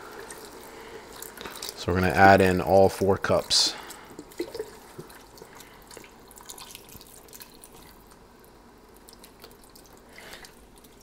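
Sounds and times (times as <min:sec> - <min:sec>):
broth pouring into pot: 0:00.0 - 0:11.0
small crackles in hot pot: 0:00.0 - 0:11.0.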